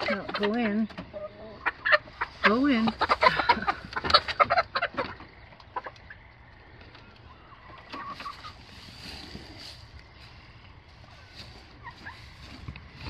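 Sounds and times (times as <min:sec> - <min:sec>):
chickens squawking and clucking: 0:00.0 - 0:13.0.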